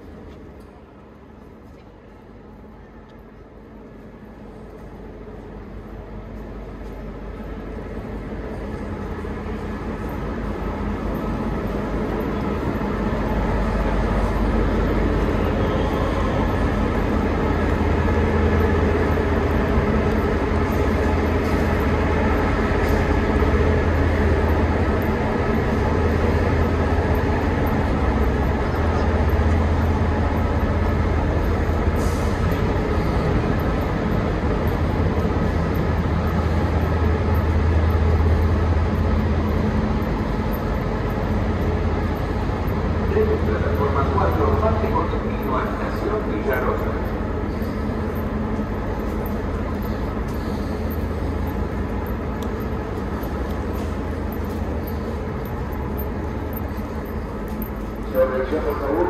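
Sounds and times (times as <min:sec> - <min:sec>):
diesel locomotive rumbling: 0:00.0 - 0:59.0.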